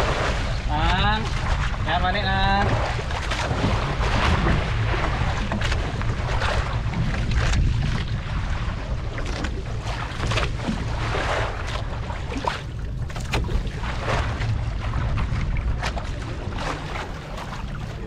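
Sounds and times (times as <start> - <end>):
steady low rumble: 0.0 - 18.0
water slapping and splashing: 0.0 - 18.0
wind buffeting microphone: 0.0 - 18.0.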